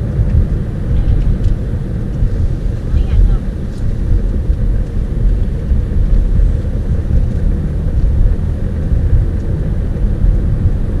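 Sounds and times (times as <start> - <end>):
car driving interior rumble: 0.0 - 11.0.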